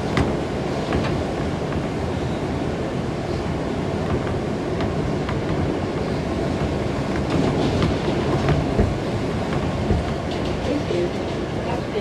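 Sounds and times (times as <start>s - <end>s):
subway train rumbling: 0.0s - 12.0s
wheels clicking over rail joints: 0.0s - 12.0s.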